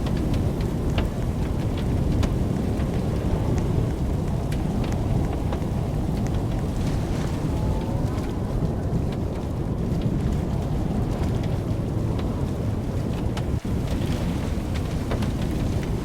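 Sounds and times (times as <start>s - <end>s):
heavy rain: 0.0s - 16.0s
low storm rumble: 0.0s - 16.0s.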